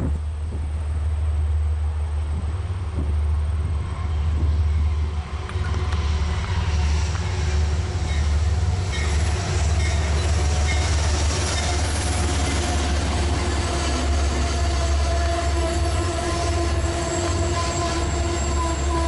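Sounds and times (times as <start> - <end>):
diesel locomotive engine rumble: 0.0 - 19.0
train cars rolling on rails: 0.0 - 19.0.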